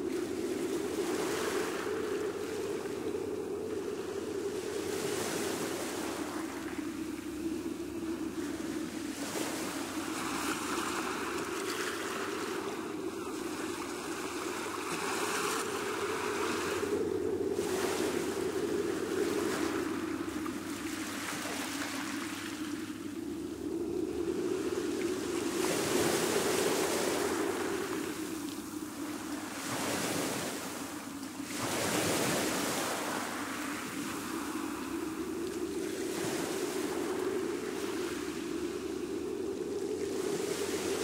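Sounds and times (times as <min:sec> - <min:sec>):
sea waves washing onto shore: 0:00.0 - 0:41.0.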